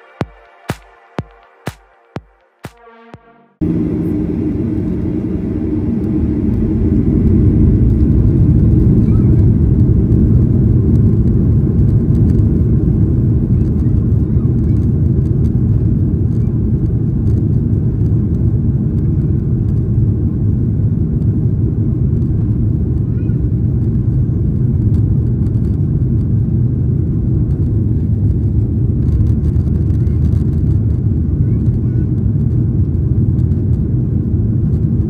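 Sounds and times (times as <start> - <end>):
jet engines at takeoff power: 3.6 - 35.0
wheels rumbling on runway: 3.6 - 35.0.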